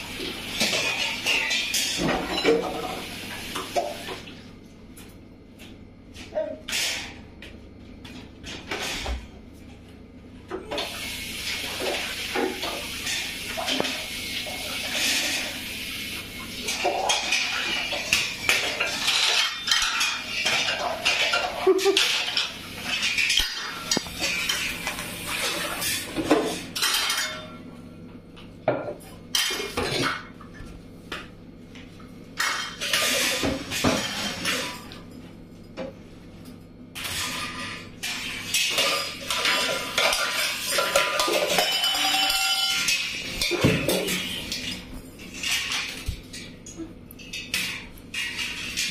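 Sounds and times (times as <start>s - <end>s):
pots and pans clattering: 0.0s - 4.4s, 8.1s - 9.3s, 10.5s - 27.7s, 28.6s - 30.8s, 32.4s - 48.9s.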